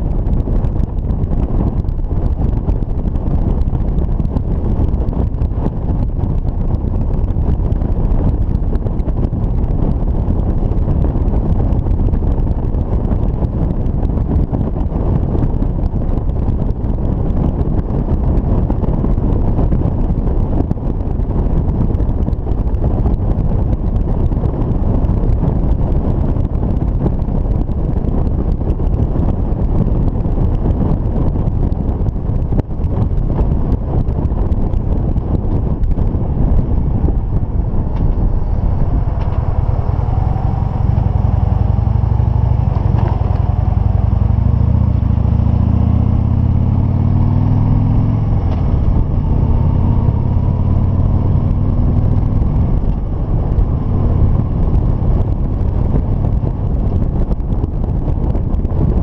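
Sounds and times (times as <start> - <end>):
road noise: 0.0 - 59.0
wind rushing over microphone: 0.0 - 59.0.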